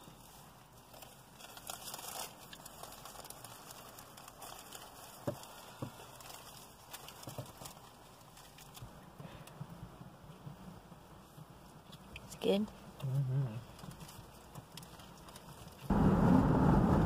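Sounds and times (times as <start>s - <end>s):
faint rustling and crinkling: 0.0s - 15.9s.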